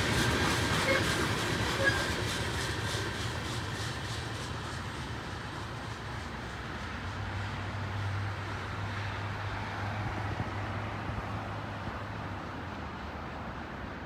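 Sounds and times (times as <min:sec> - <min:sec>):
freight train rumble: 0:00.0 - 0:14.0
road traffic: 0:00.0 - 0:14.0.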